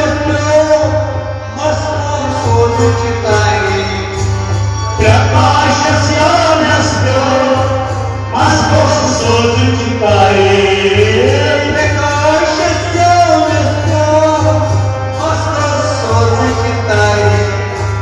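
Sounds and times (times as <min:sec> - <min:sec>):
harmonium: 0:00.0 - 0:18.0
person singing folk song: 0:00.0 - 0:18.0.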